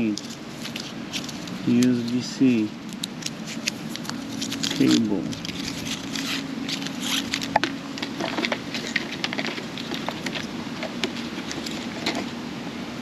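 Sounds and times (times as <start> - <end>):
packaging rustling: 0.0 - 12.4
faint steady hum: 0.0 - 13.0.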